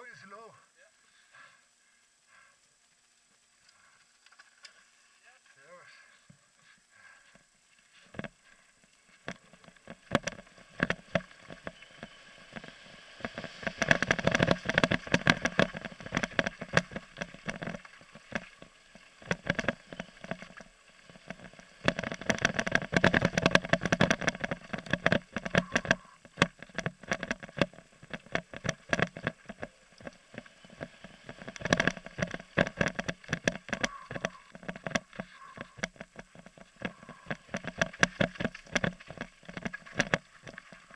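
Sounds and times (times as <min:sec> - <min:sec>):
bike rattling on gravel: 0:07.8 - 0:40.9.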